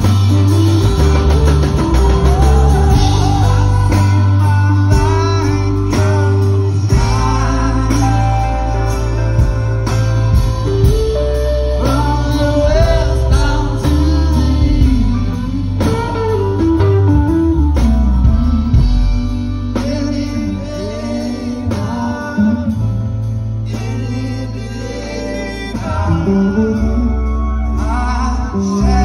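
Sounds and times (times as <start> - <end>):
acoustic guitar: 0.0 - 29.0
drums: 0.0 - 29.0
upright bass: 0.0 - 29.0
men singing through pa: 0.3 - 9.8, 11.3 - 16.2, 18.2 - 23.0, 23.6 - 29.0.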